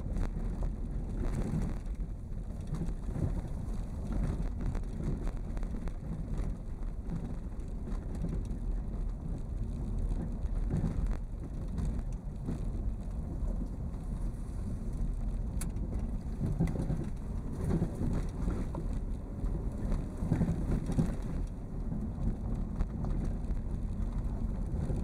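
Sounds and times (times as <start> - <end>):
tyres crackling on rough surface: 0.0 - 25.0
vehicle rumble: 0.0 - 25.0
wind on microphone: 0.0 - 25.0.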